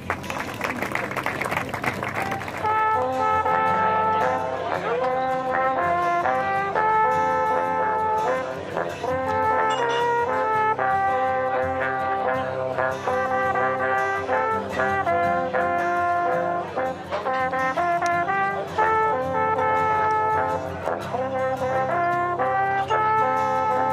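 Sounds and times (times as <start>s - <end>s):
alphorns playing in harmony: 1.8s - 23.9s.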